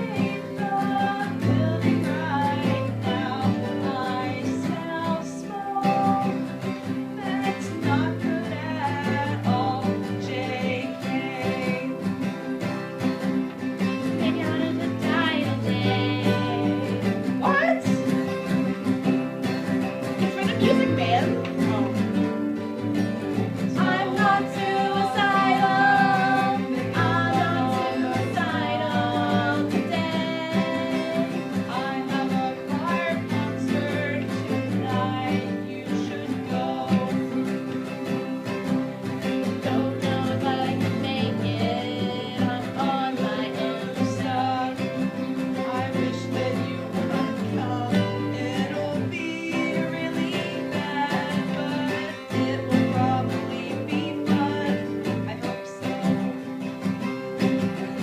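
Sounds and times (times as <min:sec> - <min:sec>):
person singing in a twang: 0:00.0 - 0:12.7, 0:14.0 - 0:18.9, 0:20.0 - 0:56.8
acoustic guitar country tune: 0:00.0 - 0:58.0.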